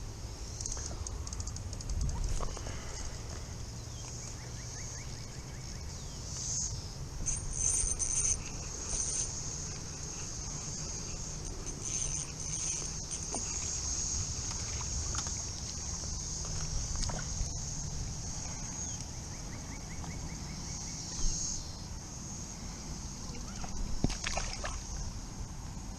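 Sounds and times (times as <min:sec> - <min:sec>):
cicadas singing: 0:00.0 - 0:25.9.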